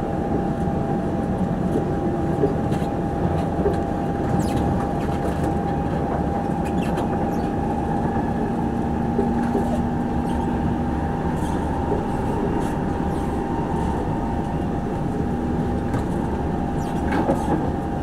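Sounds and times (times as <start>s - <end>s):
constant hum: 0.0s - 18.0s
train wheels rumbling on track: 0.0s - 18.0s.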